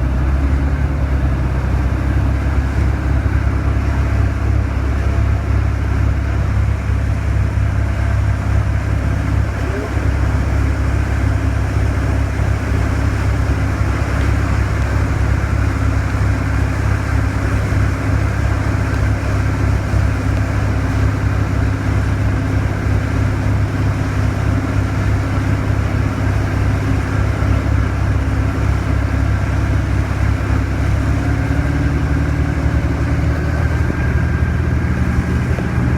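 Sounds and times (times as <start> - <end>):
boat engine rumbling: 0.0 - 35.9.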